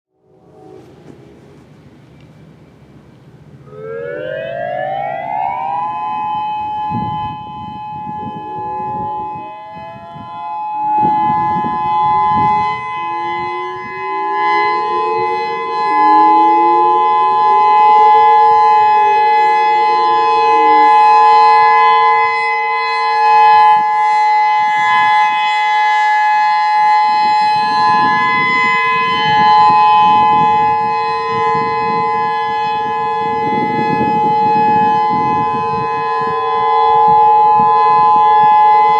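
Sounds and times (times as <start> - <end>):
distant warning sirens: 0.1 - 38.9
tornado siren alert tone: 0.1 - 38.9.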